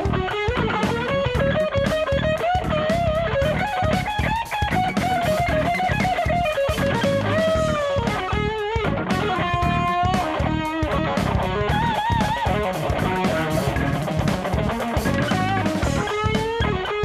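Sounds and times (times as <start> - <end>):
band backing with drums: 0.0 - 17.0
electric guitar lead melody: 0.0 - 17.0.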